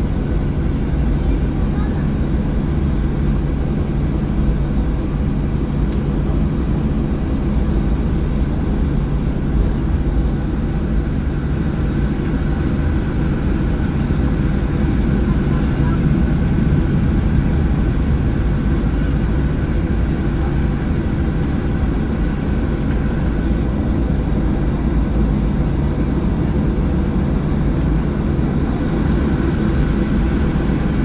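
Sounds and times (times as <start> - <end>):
jet cabin rumble: 0.0 - 31.0.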